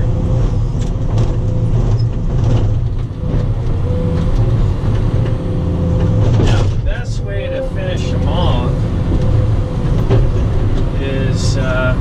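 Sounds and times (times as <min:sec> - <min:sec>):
excavator diesel engine drone: 0:00.0 - 0:12.0.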